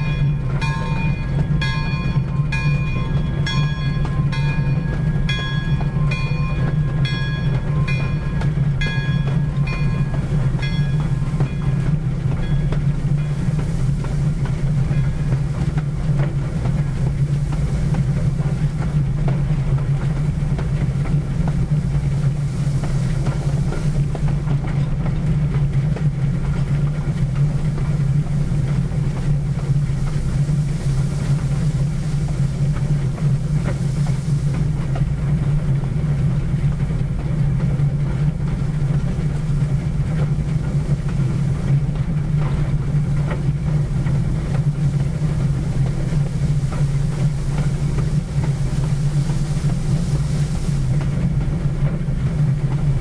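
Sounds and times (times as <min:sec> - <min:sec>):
steam locomotive rumbling: 0:00.0 - 0:53.0.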